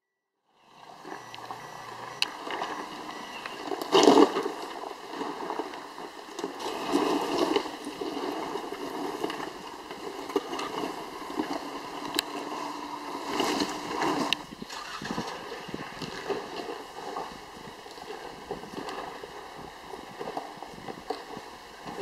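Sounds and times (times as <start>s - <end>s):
car engine running low: 0.6s - 22.0s
tyres crunching over stones: 1.4s - 22.0s
rocks knocking under wheels: 2.2s - 12.6s, 13.2s - 22.0s.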